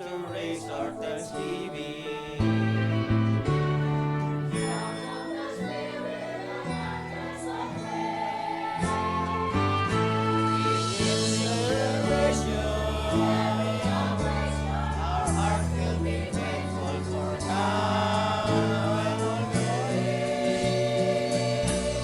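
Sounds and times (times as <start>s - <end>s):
choir singing in parts: 0.0s - 22.0s
instrumental accompaniment: 0.0s - 22.0s.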